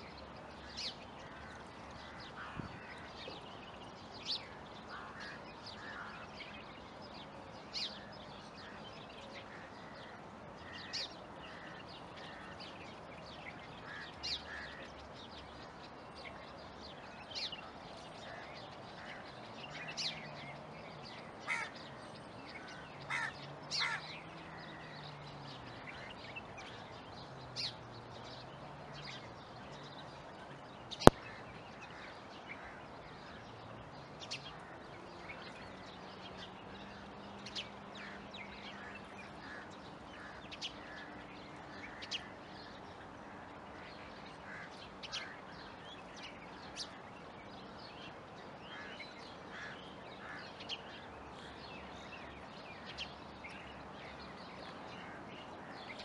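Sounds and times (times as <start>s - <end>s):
small birds calling: 0.0s - 56.0s.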